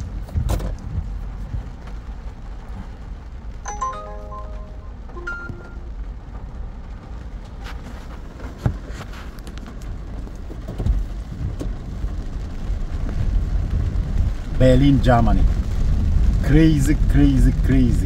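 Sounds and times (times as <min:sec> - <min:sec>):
rain: 0:00.0 - 0:18.0.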